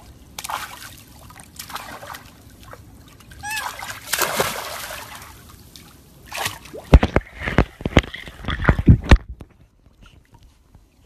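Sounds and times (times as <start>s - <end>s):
pool water sloshing and splashing: 0.0s - 11.0s.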